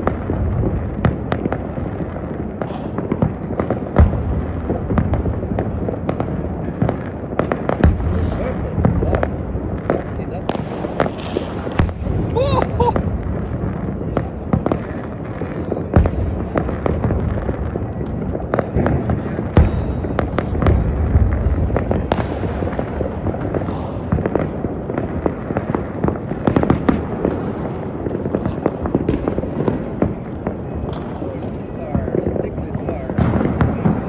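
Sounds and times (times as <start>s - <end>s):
fireworks bangs: 0.0s - 34.0s
fireworks rumble and crackle: 0.0s - 34.0s.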